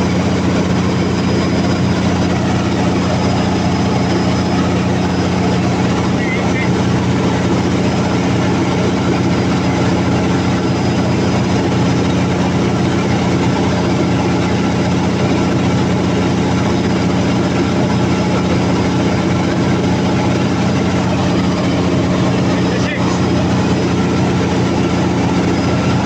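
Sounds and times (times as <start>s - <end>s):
diesel generator engine running: 0.0s - 26.0s.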